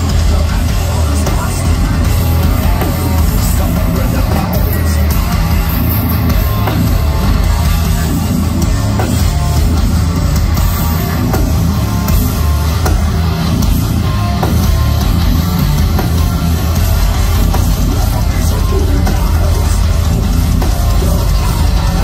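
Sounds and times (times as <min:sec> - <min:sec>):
heavy metal band playing live: 0:00.0 - 0:22.0.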